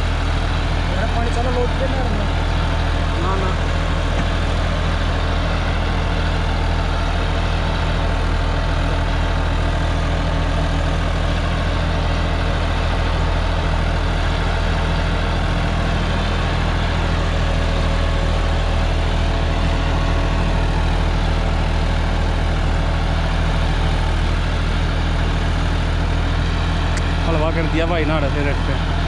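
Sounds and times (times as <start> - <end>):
tractor diesel engine humming: 0.0 - 29.0.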